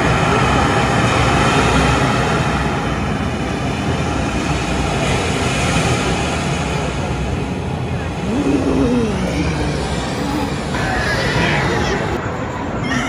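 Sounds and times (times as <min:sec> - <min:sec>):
ocean surf over loudspeakers: 0:00.0 - 0:13.0.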